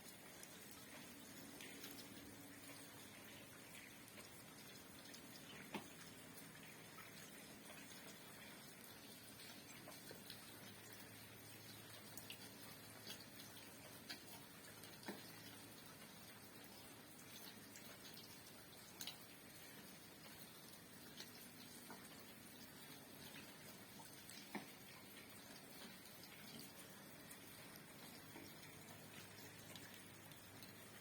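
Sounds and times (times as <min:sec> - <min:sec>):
faint rain hiss: 0:00.0 - 0:31.0.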